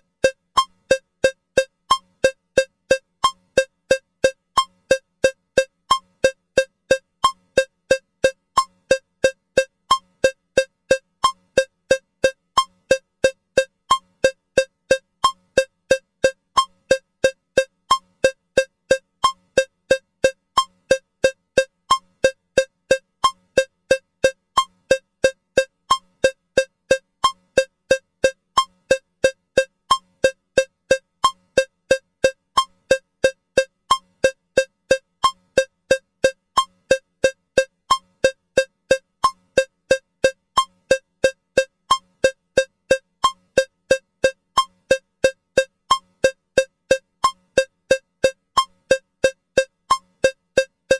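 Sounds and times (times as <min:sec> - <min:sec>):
cowbell metronome ticking: 0:00.0 - 0:50.9.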